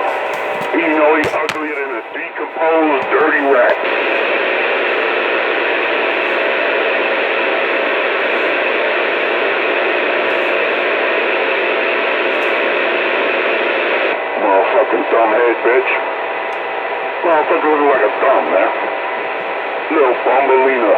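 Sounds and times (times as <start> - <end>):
faint hum tones: 0.0 - 20.9
radio static hiss: 0.0 - 20.9.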